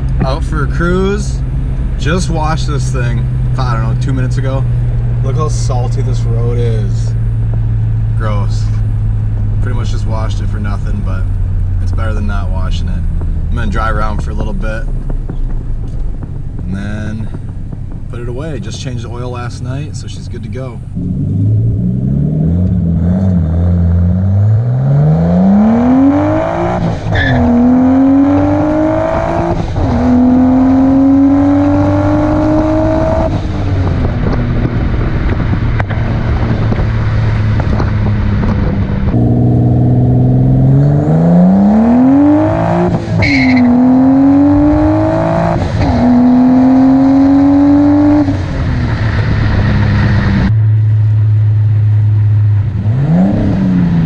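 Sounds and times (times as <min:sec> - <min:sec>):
car engine revving with upshifts: 0:00.0 - 0:54.0.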